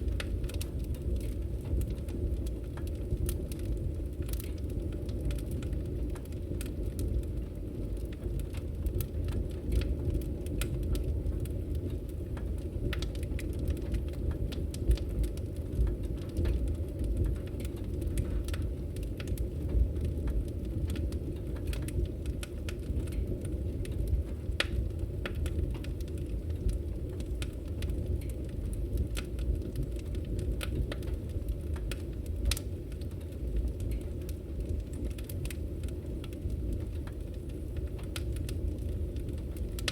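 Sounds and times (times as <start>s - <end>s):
burning logs crackling and popping: 0.0s - 39.9s
fire flames rumbling: 0.0s - 39.9s.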